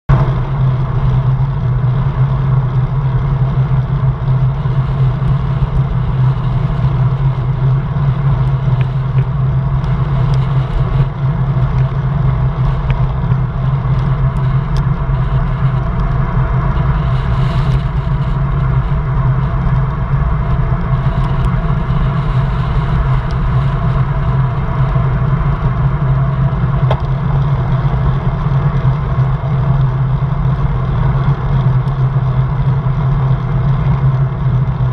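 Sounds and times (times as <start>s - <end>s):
tyre noise on asphalt: 0.1s - 34.9s.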